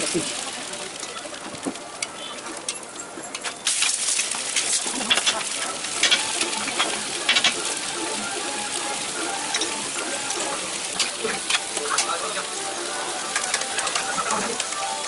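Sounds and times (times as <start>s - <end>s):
dosas sizzling on a griddle: 0.0s - 15.0s.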